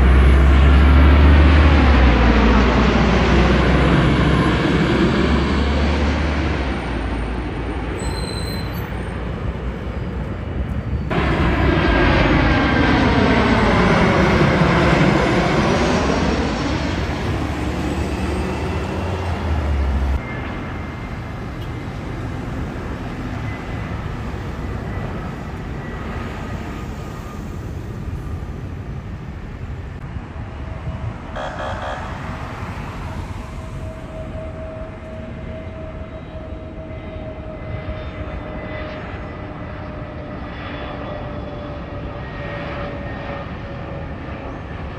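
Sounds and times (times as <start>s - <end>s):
distant jet engine on approach: 0.0s - 44.9s
jet airliner passing overhead: 0.0s - 44.9s.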